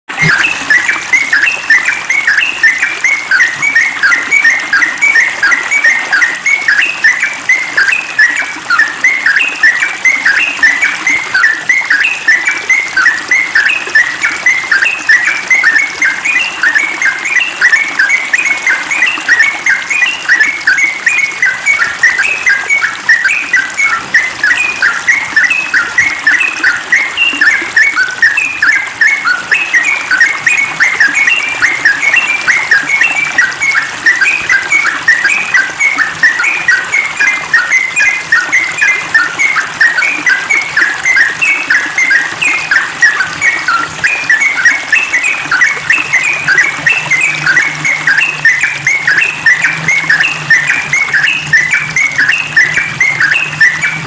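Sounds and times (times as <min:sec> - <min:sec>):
bird chirping rapidly: 0:00.2 - 0:54.0.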